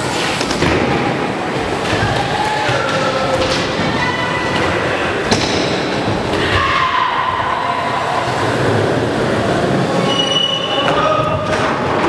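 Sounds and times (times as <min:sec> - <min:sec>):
bike tires rolling and squealing: 0:00.0 - 0:12.0.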